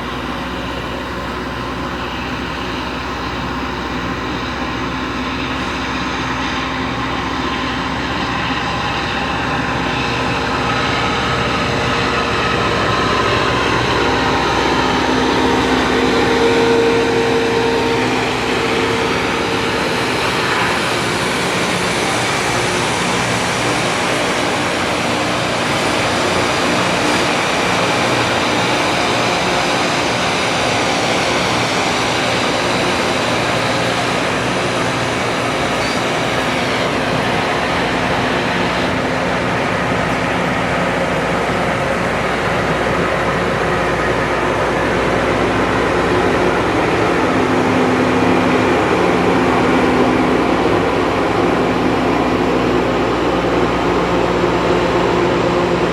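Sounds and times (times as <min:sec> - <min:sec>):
grinding stones hissing on rail: 0:00.0 - 0:45.9
diesel engine drone: 0:00.0 - 0:55.9.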